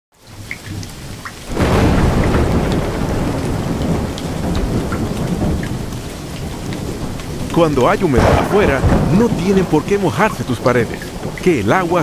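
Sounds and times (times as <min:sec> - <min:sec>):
raindrops ticking: 0:00.2 - 0:12.0
steady rain: 0:00.2 - 0:12.0
deep thunder rumble: 0:01.5 - 0:12.0.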